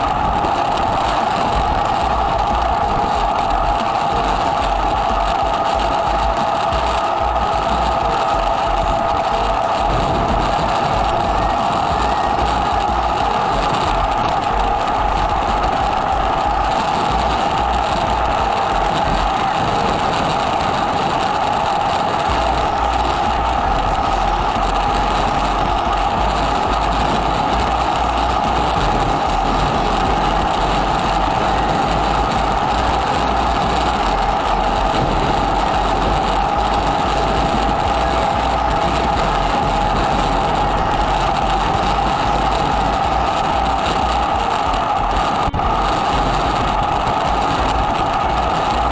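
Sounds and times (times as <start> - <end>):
low riding rumble: 0.0 - 48.9
motorcycle engine running: 0.0 - 48.9.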